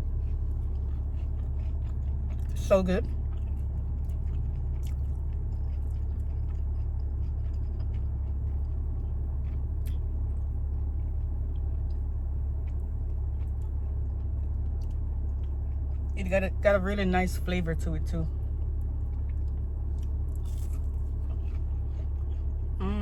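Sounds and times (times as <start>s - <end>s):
person chewing crunchy food: 0.0s - 16.2s, 18.3s - 23.0s
steady low hum: 0.0s - 23.0s.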